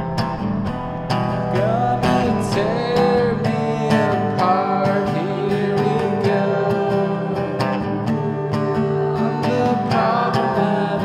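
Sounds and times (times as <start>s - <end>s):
country acoustic guitar music: 0.0s - 11.0s.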